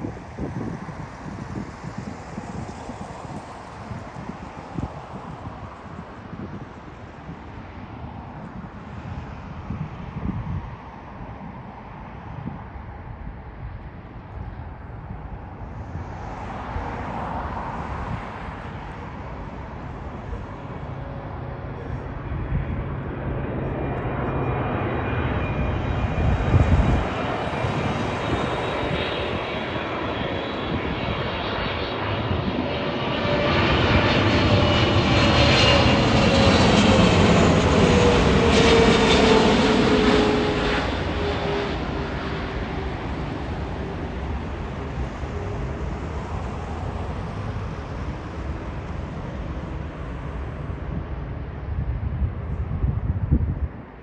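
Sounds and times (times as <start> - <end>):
jet airliner passing overhead: 0.0 - 54.0
wind rumble on microphone: 0.0 - 54.0.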